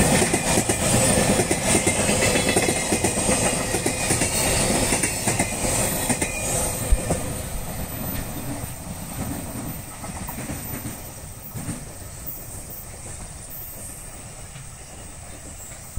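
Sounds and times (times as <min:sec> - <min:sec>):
freight train wheels rumbling: 0:00.0 - 0:15.9.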